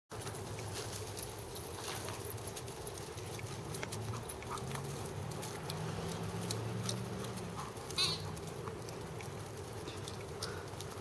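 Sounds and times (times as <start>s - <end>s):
paws scuffing grass and leaves: 0.1s - 11.0s.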